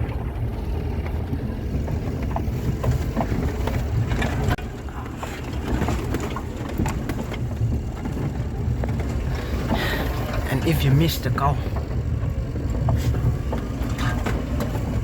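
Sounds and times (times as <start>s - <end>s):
knocks and rattles: 0.0s - 15.0s
vehicle engine and road rumble: 0.0s - 15.0s.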